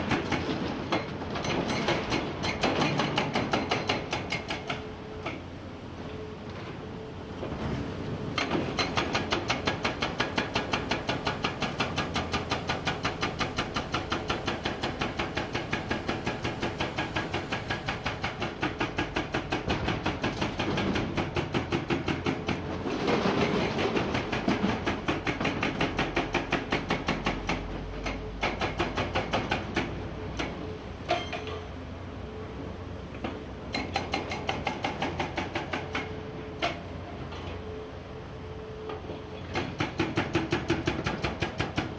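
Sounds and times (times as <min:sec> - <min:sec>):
hydraulic rock breaker hammering: 0:00.0 - 0:04.8, 0:08.4 - 0:31.6, 0:33.2 - 0:36.8, 0:39.4 - 0:41.9.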